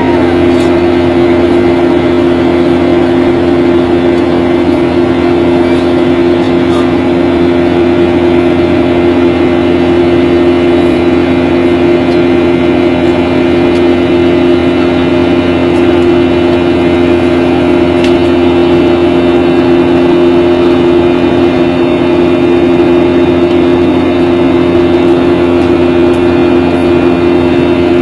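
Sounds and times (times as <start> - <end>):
airliner engines droning: 0.0 - 28.0
cabin air noise: 0.0 - 28.0.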